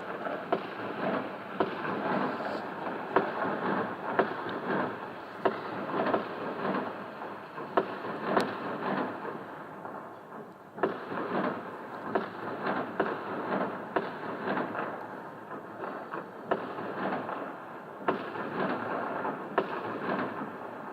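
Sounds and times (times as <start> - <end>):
distant fireworks rumble and crackle: 0.0 - 20.9
fireworks bangs: 0.0 - 20.9.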